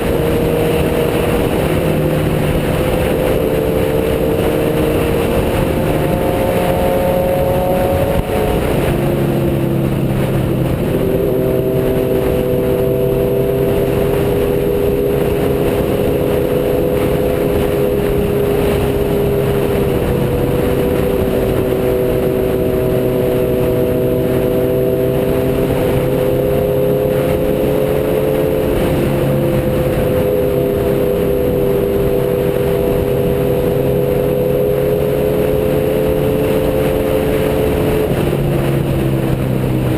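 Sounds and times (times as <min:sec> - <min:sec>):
heavy rushing noise: 0:00.0 - 0:39.9
motorcycle engine cruising: 0:00.0 - 0:39.9.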